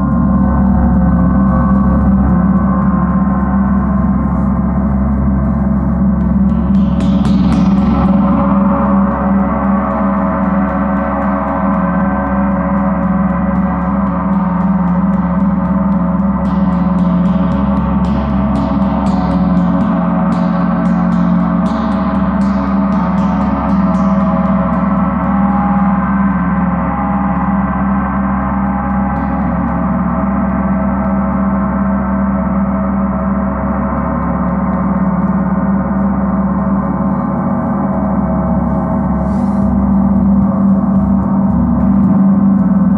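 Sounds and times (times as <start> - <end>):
felt mallet strokes on gong: 0.0 - 42.9
gong sustained tones: 0.0 - 42.9.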